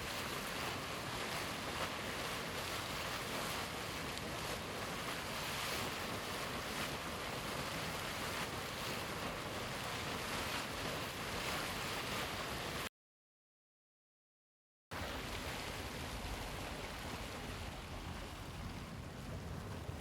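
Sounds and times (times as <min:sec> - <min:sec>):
boiling water bubbling: 0:00.0 - 0:12.9, 0:15.0 - 0:20.0.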